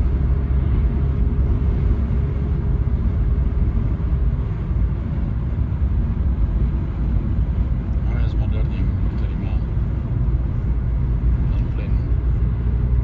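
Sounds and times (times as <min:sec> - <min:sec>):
car engine drone: 0:00.0 - 0:13.0
road rumble: 0:00.0 - 0:13.0.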